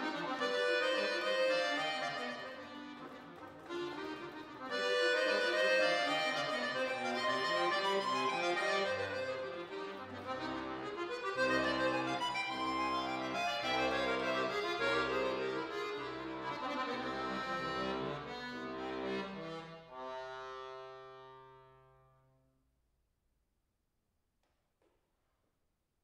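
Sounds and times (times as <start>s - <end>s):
accordion playing classical music: 0.0s - 22.2s.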